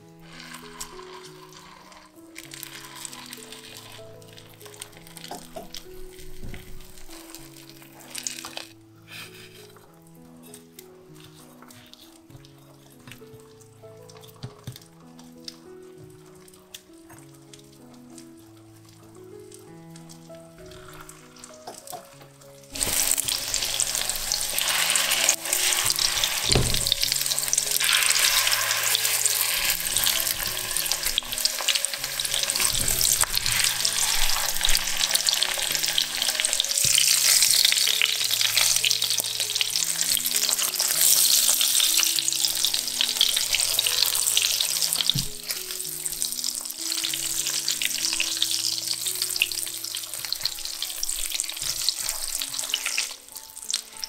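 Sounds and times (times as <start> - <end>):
fish sizzling in frying pan: 0.0 - 54.0.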